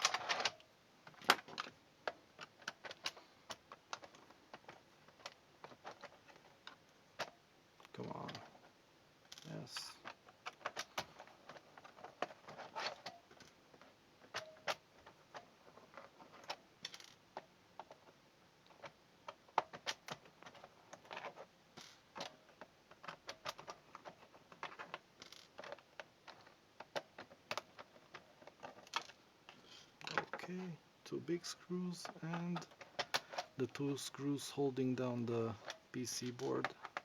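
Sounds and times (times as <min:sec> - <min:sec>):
hands handling plastic case: 0:00.0 - 0:08.7, 0:09.3 - 0:37.0.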